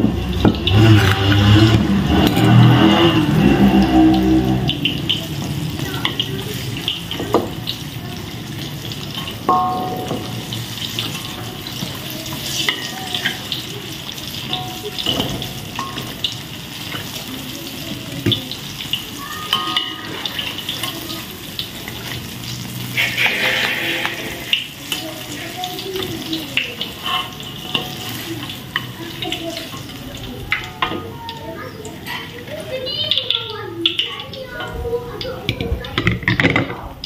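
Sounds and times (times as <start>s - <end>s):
fritters sizzling in hot oil: 0.0s - 36.1s.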